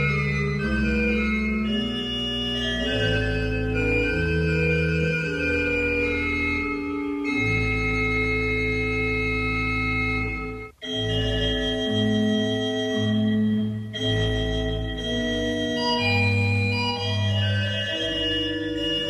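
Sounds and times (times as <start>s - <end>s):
organ chords: 0.0s - 19.0s.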